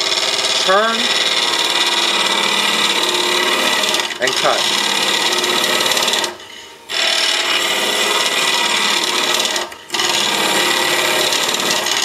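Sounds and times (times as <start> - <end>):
lathe gouge cutting wood: 0.0 - 12.0.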